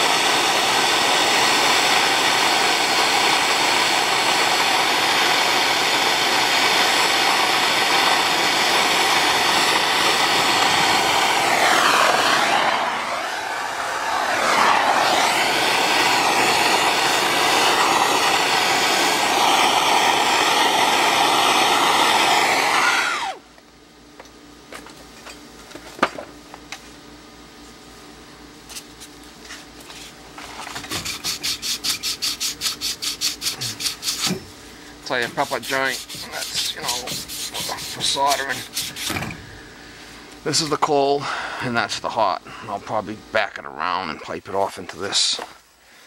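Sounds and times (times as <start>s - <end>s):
propane torch flame hissing: 0.0s - 23.6s, 29.7s - 46.0s.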